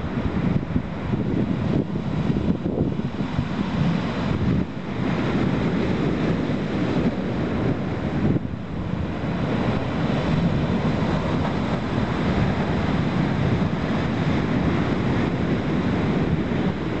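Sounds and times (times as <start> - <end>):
surf breaking over rocks: 0.0 - 17.0.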